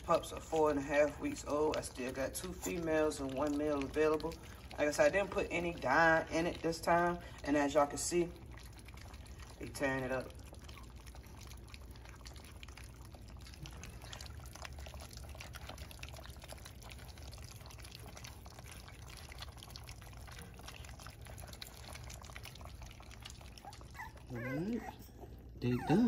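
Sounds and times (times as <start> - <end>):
puppies lapping and chewing: 0.0 - 26.0.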